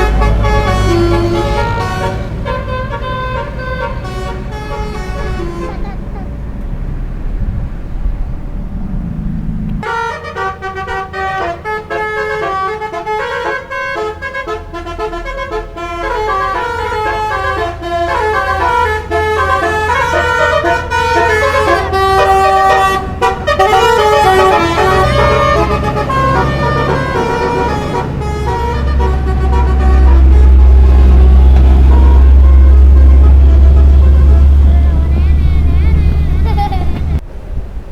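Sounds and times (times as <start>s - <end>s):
multi-tone air horn tune: 0.0s - 6.0s, 9.8s - 36.3s
low vehicle rumble: 0.0s - 37.9s.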